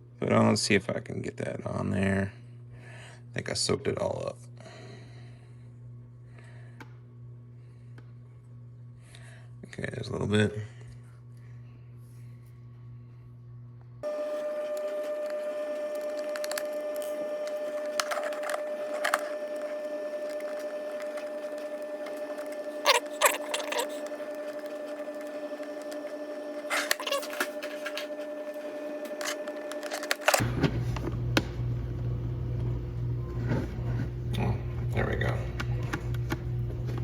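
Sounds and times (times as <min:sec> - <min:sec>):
steady machine hum: 0:00.0 - 0:37.0.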